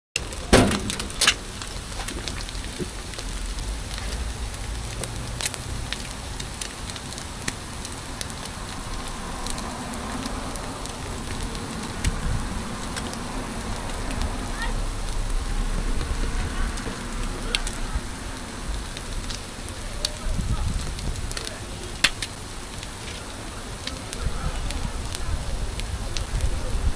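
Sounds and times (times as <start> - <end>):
food sizzling and popping: 0.2 - 26.9.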